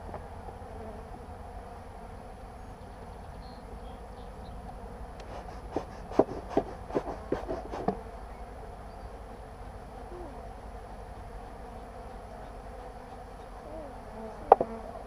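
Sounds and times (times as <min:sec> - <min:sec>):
bees buzzing: 0:00.4 - 0:15.0.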